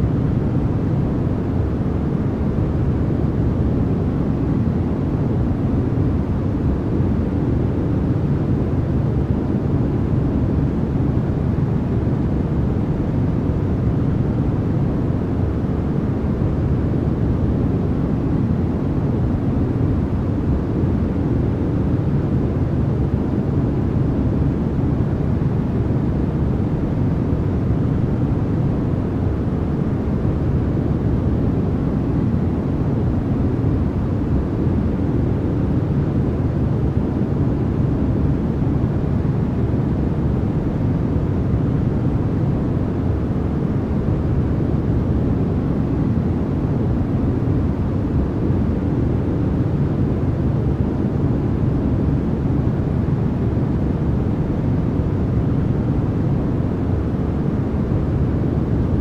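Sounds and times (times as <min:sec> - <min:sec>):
deep white noise: 0:00.0 - 0:59.0.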